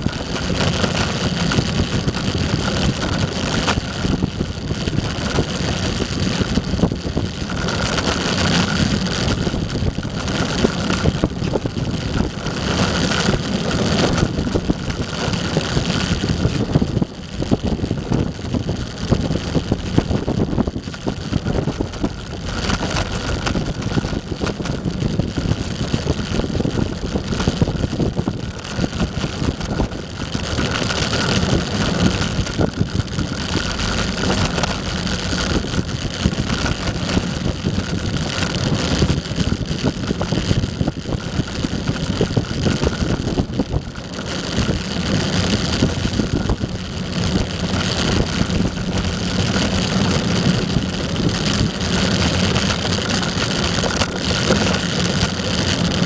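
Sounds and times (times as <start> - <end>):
skateboard wheels rumbling on asphalt: 0.0 - 56.0.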